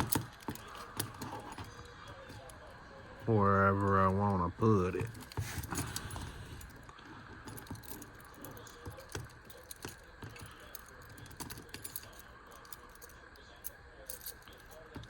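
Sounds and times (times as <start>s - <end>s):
keys jangling: 0.0s - 2.6s, 5.0s - 15.0s.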